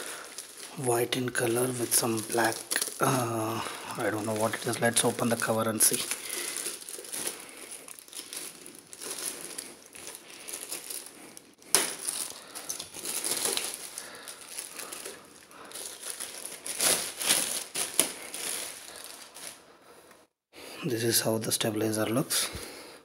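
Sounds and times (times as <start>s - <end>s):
plastic packaging crinkling: 0.0s - 19.7s.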